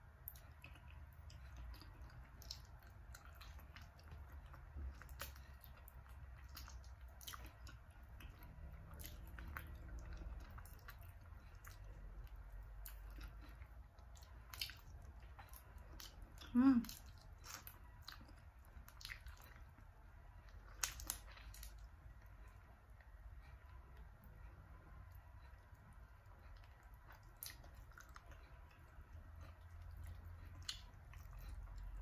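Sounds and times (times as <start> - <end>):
low steady hum: 0.0 - 32.0
wet chewing and sucking: 0.1 - 24.0, 25.1 - 32.0.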